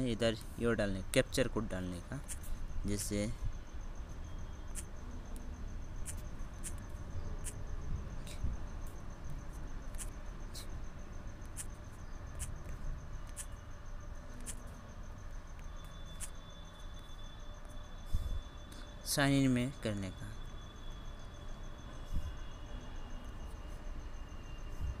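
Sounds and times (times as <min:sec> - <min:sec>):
cricket trilling: 0:00.0 - 0:25.0.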